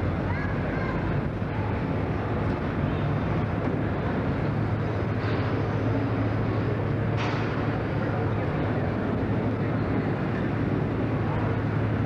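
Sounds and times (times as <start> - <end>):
outdoor background noise: 0.0 - 12.0
small engines droning: 0.0 - 12.0.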